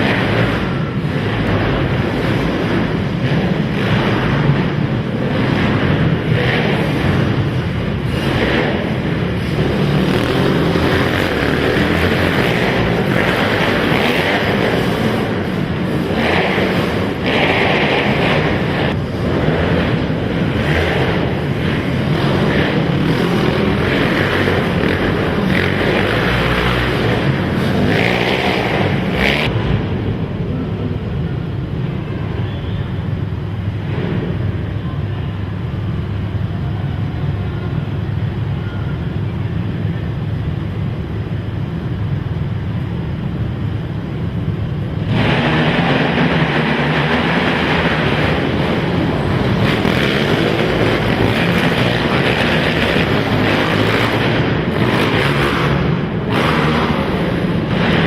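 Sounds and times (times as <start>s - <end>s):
quad engines racing: 0.0s - 58.0s.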